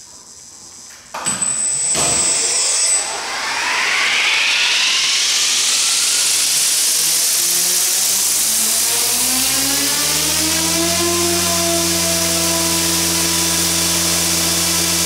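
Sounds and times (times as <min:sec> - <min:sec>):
rc helicopter spooling up: 0:01.5 - 0:15.0.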